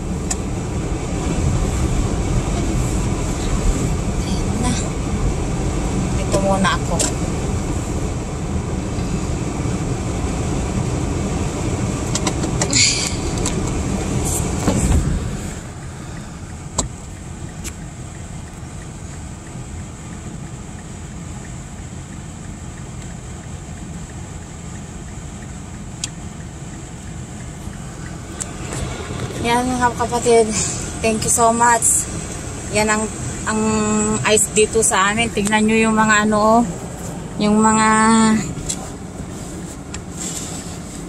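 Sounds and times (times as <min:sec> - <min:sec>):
car engine idling: 0:00.0 - 0:41.0
car moving rumble: 0:00.0 - 0:41.0.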